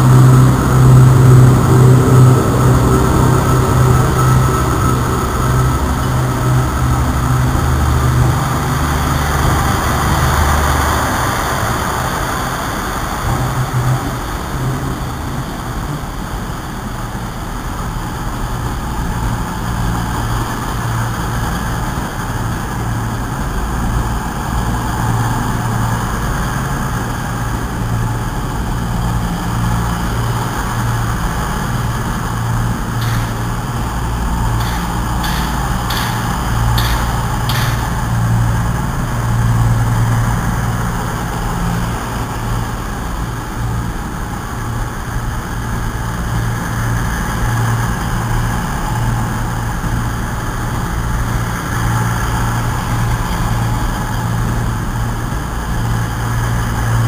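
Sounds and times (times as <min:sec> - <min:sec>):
trains rumbling and humming: 0:00.0 - 0:57.0.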